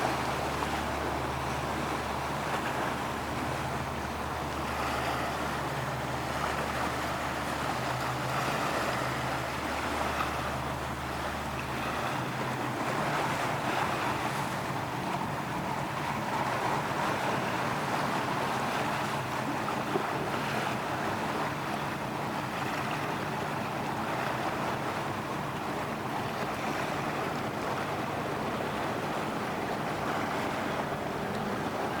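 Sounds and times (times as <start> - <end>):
boat engine droning: 0.0 - 32.0
water rushing: 0.0 - 32.0.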